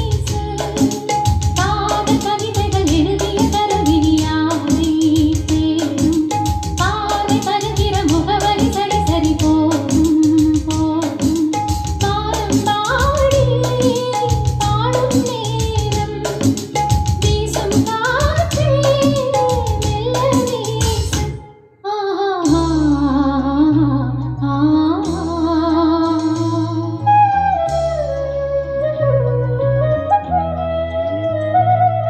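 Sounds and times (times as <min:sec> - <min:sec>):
song with singing and bass beat: 0:00.0 - 0:27.2.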